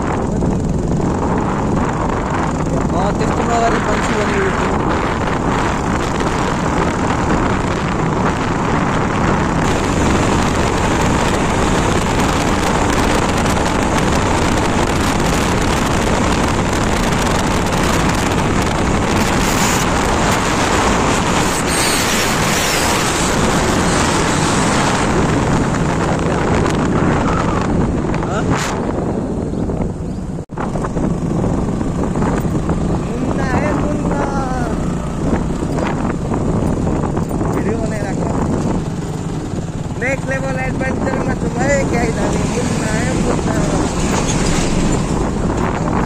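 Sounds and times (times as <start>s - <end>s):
motorcycle running: 0.0s - 46.0s
wind rush over microphone: 0.0s - 46.0s.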